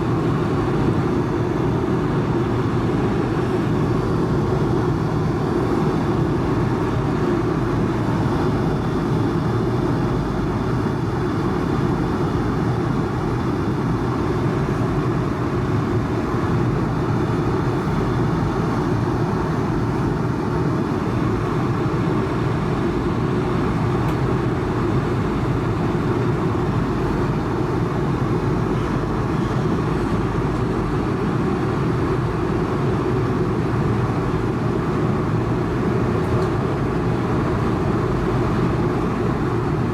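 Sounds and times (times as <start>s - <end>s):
airplane cabin noise in flight: 0.0s - 39.9s.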